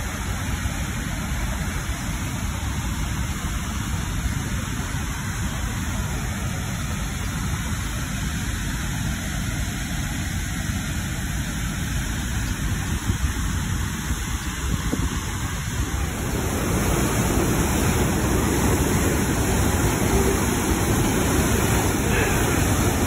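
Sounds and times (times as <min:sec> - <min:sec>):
whitewater roaring through canyon: 0:00.0 - 0:23.0.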